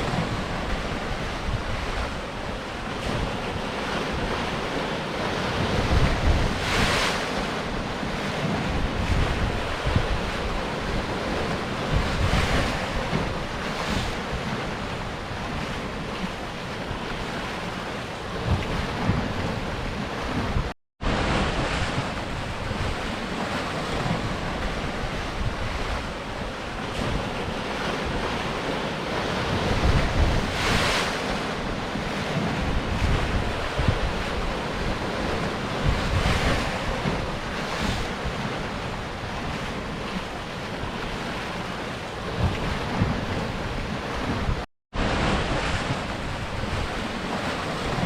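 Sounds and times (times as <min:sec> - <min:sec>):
surf washing over rocks: 0:00.0 - 0:48.0
wind buffeting microphone: 0:00.0 - 0:48.0.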